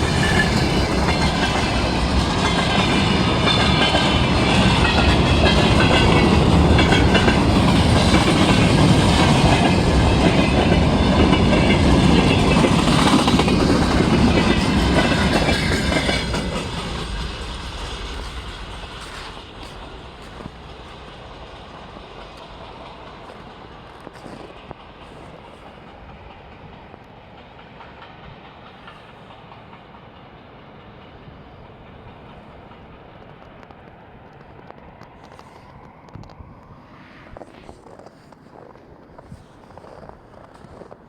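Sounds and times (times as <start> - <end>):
freight train rumbling over bridge: 0.0 - 41.0
train wheel clatter: 0.0 - 41.0.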